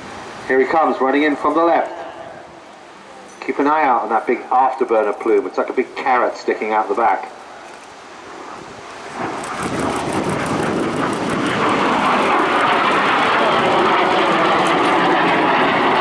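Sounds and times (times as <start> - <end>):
jet engine with afterburner roaring: 0.0 - 16.0.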